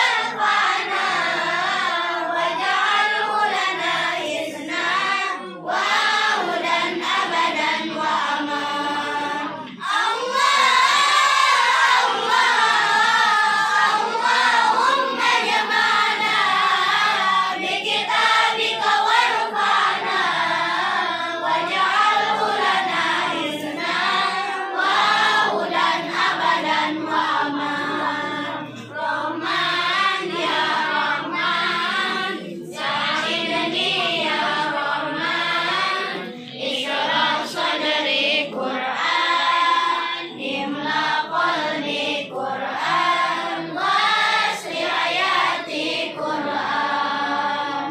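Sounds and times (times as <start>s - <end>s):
children singing in unison: 0.0s - 47.9s.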